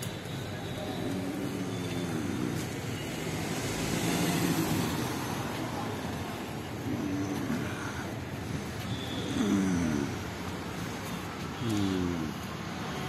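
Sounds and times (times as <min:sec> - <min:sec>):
faint indistinct voices: 0:00.0 - 0:13.0
traffic rumble: 0:00.0 - 0:13.0.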